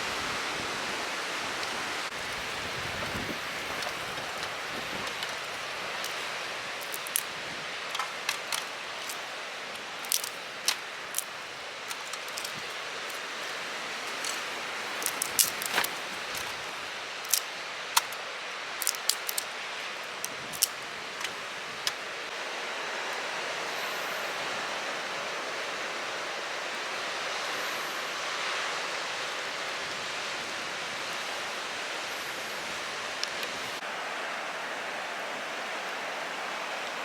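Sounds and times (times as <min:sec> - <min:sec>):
surf on a beach: 0:00.0 - 0:37.0
wind: 0:00.0 - 0:37.0.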